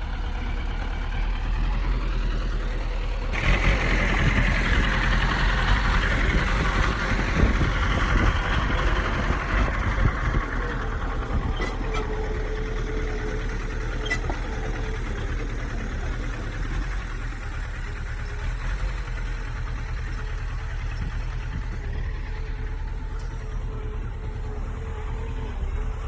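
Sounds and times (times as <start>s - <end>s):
bulldozer diesel engine idling: 0.0s - 26.0s.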